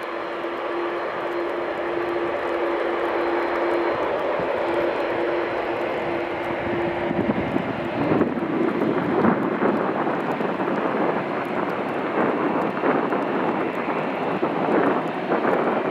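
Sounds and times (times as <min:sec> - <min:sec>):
jet engines rushing: 0:00.0 - 0:15.9
steady whine: 0:00.0 - 0:15.9
wind on microphone: 0:00.0 - 0:15.9.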